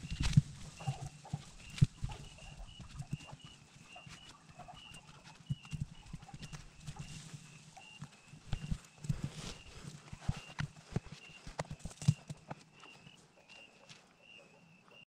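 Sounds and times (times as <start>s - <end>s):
small animal chirping: 0.0s - 15.0s.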